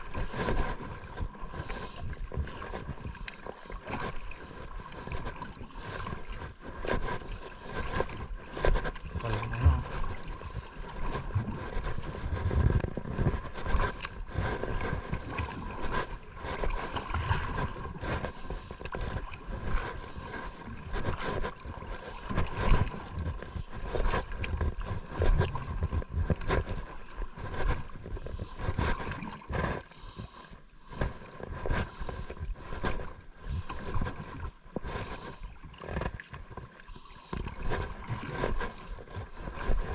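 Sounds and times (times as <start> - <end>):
water slapping against boat hull: 0.0 - 39.9.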